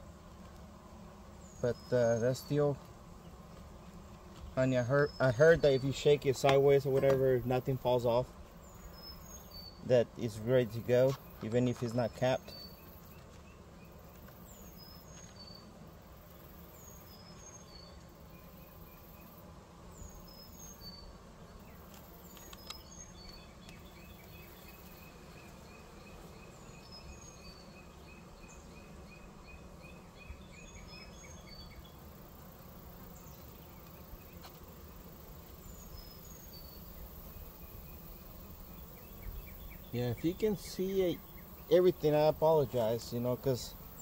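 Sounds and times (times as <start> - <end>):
honeybees humming: 0.0 - 44.0.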